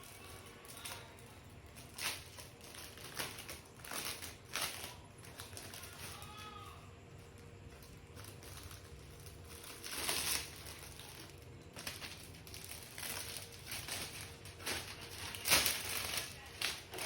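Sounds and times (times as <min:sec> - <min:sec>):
snack wrappers crinkling: 0:00.0 - 0:17.0.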